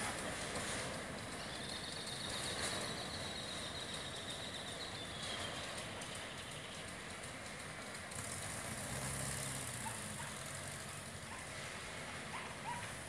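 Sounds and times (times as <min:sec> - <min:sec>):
cars idling and moving off: 0:00.0 - 0:13.0.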